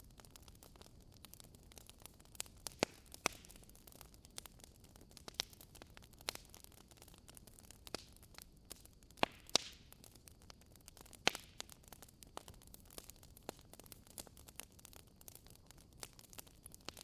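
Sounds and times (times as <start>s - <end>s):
faint fire hiss: 0.0s - 17.0s
wood fire crackling and popping: 0.0s - 17.0s.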